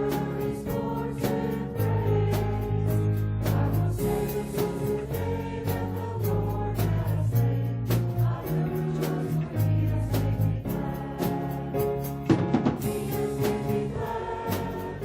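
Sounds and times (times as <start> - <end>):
congregation singing a hymn: 0.0 - 15.0
instrumental accompaniment with beat: 0.0 - 15.0.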